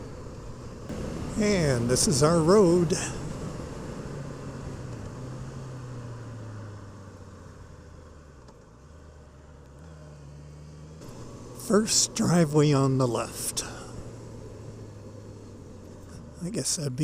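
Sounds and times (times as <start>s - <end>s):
faint road noise: 0.0s - 17.0s
vehicle engine humming: 0.0s - 17.0s.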